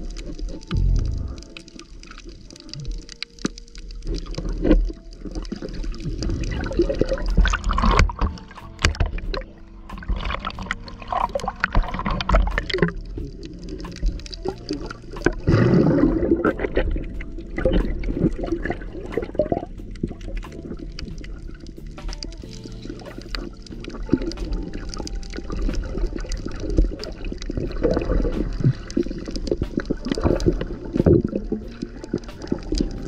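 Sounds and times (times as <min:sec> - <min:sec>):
water swishing and gurgling: 0:00.0 - 0:33.0.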